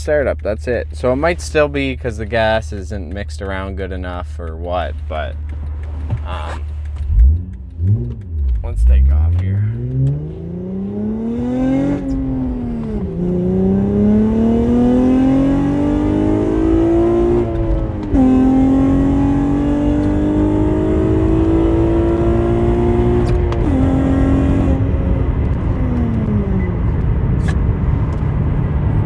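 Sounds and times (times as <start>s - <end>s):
car engine accelerating through gears: 0.0s - 29.0s.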